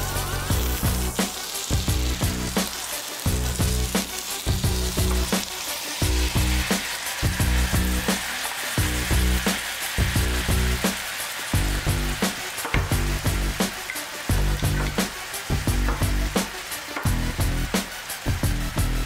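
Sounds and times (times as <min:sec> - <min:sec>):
background music with steady beat: 0:00.0 - 0:19.0
fish sizzling in a frying pan: 0:00.0 - 0:19.0
sauce bubbling in a hot pan: 0:00.0 - 0:19.0.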